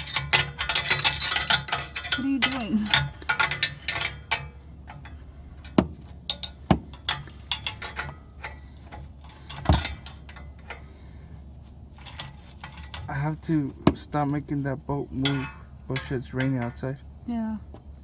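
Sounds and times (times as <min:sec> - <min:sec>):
hand tools clinking on metal: 0:00.0 - 0:11.0, 0:12.0 - 0:17.0.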